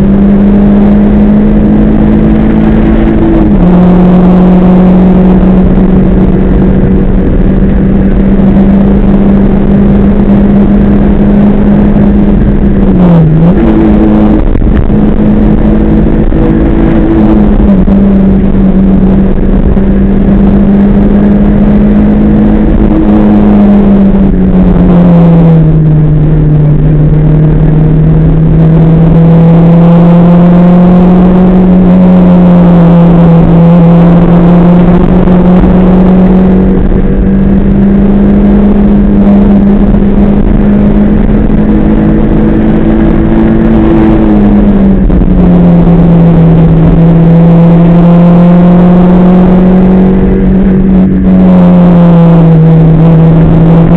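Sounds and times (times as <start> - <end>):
car engine revving high: 0.0 - 53.9.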